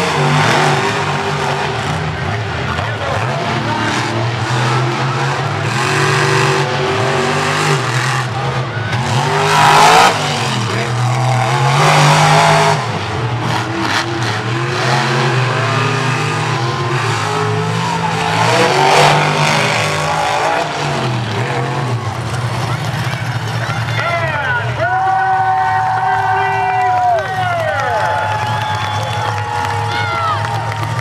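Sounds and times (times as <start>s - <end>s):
monster truck engines revving: 0.0s - 31.0s.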